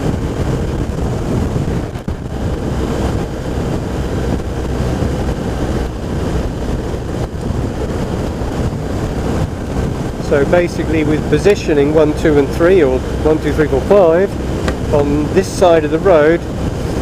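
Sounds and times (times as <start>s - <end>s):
motorcycle engine running: 0.0s - 17.0s
wind noise on microphone: 0.0s - 17.0s
tyre noise on wet road: 1.6s - 17.0s.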